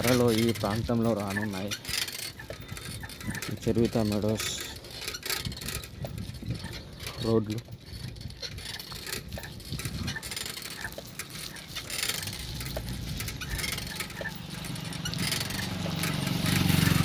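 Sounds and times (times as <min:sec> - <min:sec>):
motorbike engine running: 0:00.0 - 0:17.0
wind buffeting microphone: 0:00.0 - 0:17.0.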